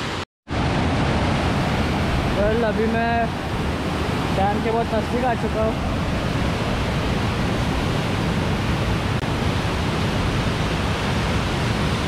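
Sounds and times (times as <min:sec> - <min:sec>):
water rushing over dam: 0:00.0 - 0:12.0.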